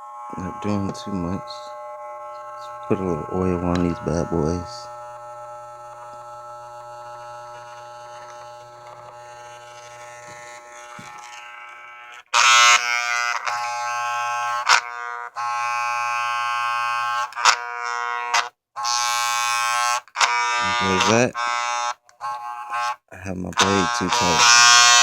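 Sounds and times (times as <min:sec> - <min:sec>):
electric hair clippers buzzing: 0:00.0 - 0:25.0.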